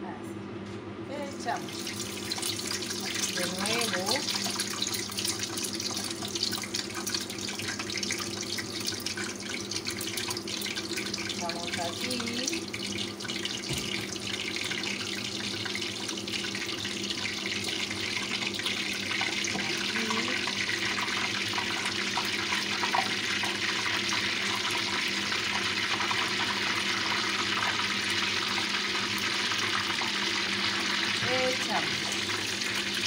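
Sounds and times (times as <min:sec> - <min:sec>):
bread sizzling in hot oil: 0:01.4 - 0:33.0.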